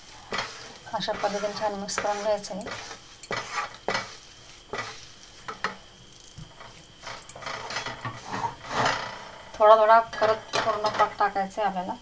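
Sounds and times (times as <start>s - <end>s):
wooden spatula scraping metal pan: 0.0s - 11.3s
light sizzle: 0.0s - 12.0s.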